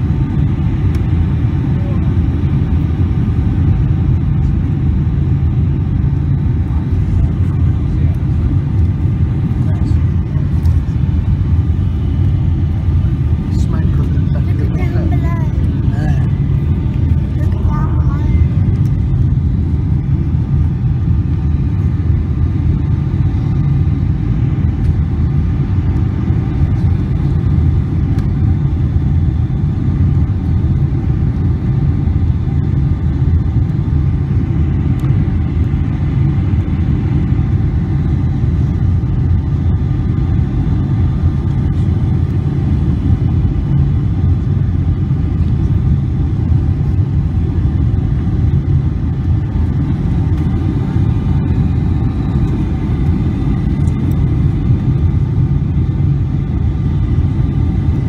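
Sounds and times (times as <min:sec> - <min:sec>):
jet engines and airflow rumble: 0:00.0 - 0:58.0.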